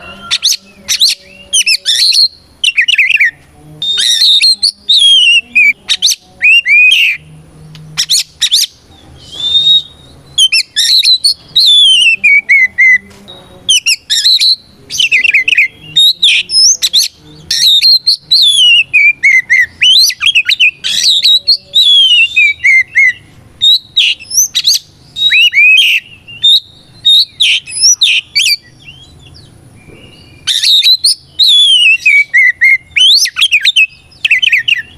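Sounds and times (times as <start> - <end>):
bird singing whistled phrases: 0.0 - 7.2, 8.0 - 13.1, 13.7 - 29.2, 29.8 - 34.9.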